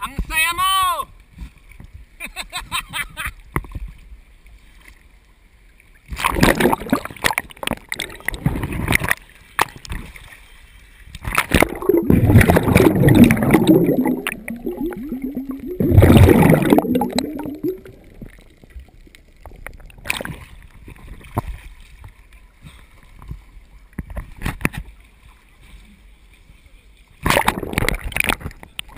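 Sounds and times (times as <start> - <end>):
water splashing and gurgling: 3.4 - 26.1, 27.1 - 28.9.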